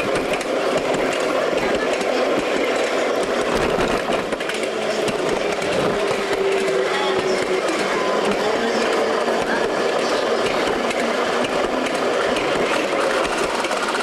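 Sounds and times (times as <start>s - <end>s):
small wheels clattering on rails: 0.0s - 14.0s.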